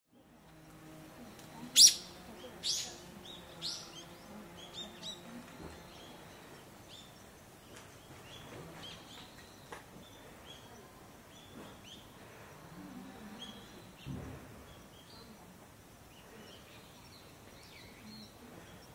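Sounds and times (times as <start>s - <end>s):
birds calling: 0.8s - 18.9s.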